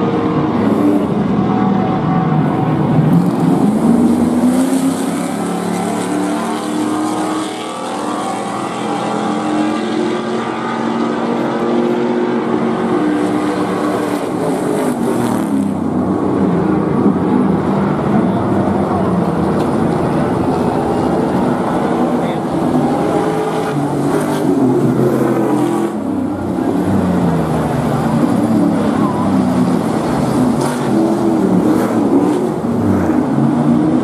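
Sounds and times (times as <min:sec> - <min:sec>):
race engines at full throttle: 0:00.0 - 0:34.0.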